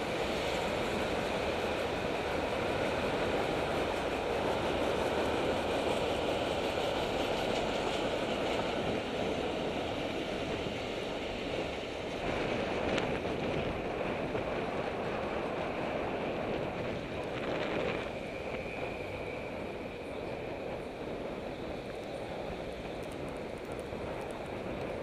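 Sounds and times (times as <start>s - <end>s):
road rumble: 0.0s - 25.0s
traffic: 0.0s - 25.0s
wind over microphone: 0.0s - 25.0s.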